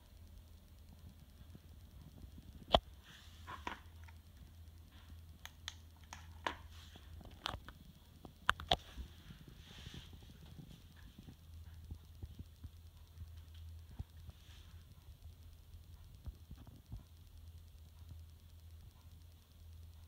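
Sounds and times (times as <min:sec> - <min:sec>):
clicks and light taps: 0:00.0 - 0:20.0
low steady hum: 0:00.0 - 0:20.0.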